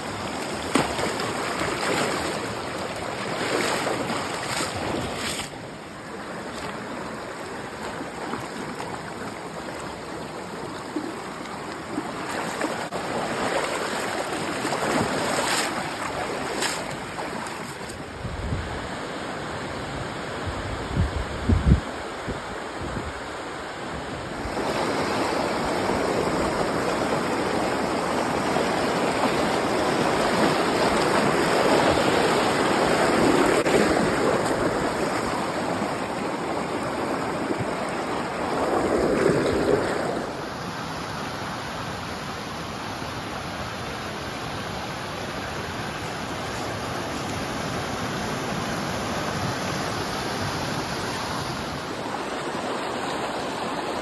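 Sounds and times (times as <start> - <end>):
creek rushing over rocks: 0.0 - 18.3, 24.3 - 54.0.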